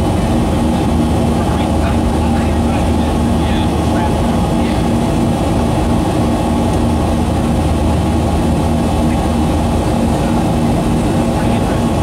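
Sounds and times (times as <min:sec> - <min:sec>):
jet engine drone in aircraft cabin: 0:00.0 - 0:12.0.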